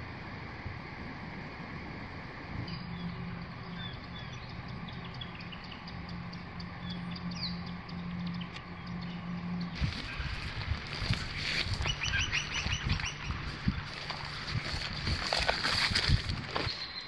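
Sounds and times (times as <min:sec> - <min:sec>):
low steady hum: 0:00.0 - 0:17.0
outdoor background hiss: 0:00.0 - 0:17.0
small birds chirping: 0:02.7 - 0:17.0.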